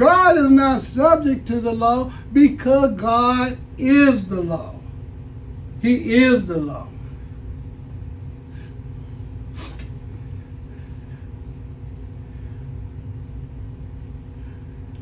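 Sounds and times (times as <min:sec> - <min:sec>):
low rumble and electrical hum: 0:00.0 - 0:15.0.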